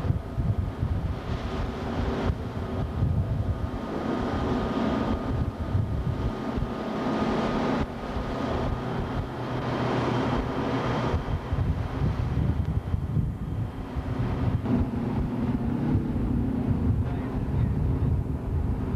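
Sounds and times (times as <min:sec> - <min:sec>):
boat engine droning: 0:00.0 - 0:18.9
wind buffeting microphone: 0:00.0 - 0:18.9.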